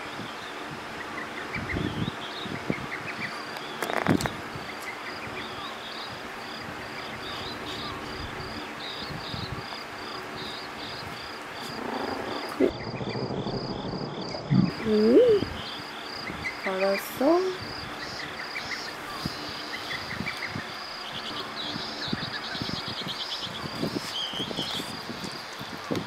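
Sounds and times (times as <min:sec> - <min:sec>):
electric fan whooshing: 0:00.0 - 0:25.9
crickets chirping: 0:01.8 - 0:26.0.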